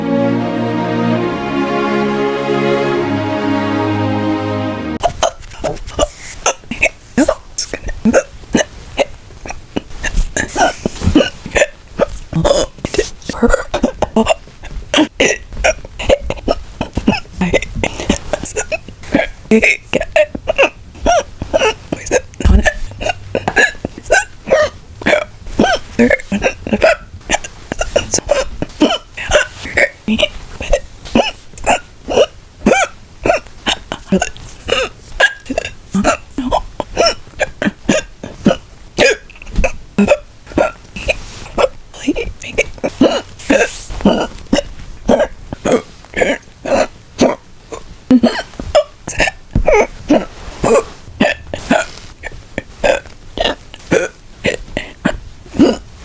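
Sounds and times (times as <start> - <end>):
person hiccuping: 5.0 - 55.9.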